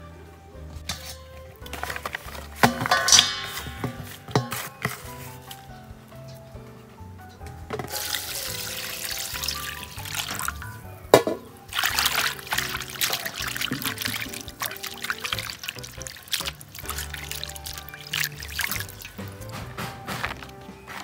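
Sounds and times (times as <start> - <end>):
background music: 0.0 - 21.0
water splashing in metal basin: 0.9 - 5.5, 7.7 - 20.6.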